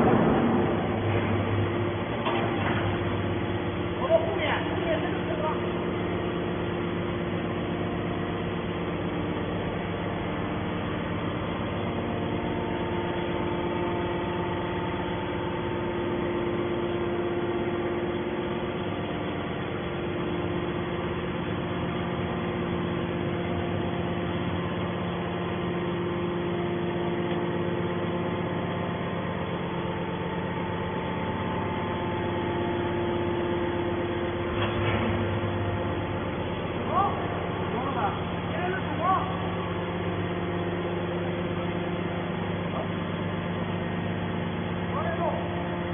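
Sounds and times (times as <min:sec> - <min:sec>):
hydraulic baler humming: 0:00.0 - 0:45.9.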